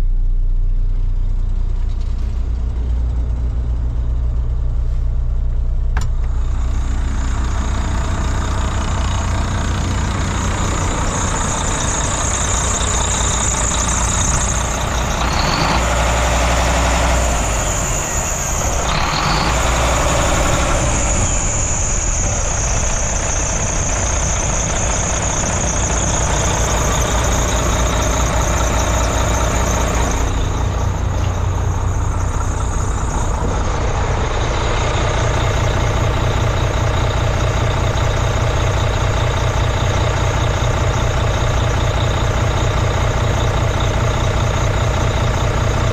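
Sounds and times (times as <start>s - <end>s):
diesel engine idling: 0.0s - 45.9s
high whine: 0.0s - 45.9s.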